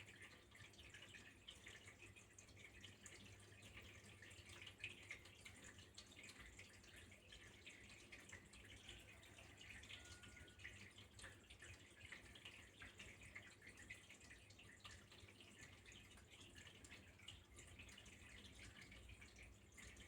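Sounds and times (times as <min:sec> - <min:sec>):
faint running water trickling: 0:00.0 - 0:20.0
small water drips: 0:00.0 - 0:20.0.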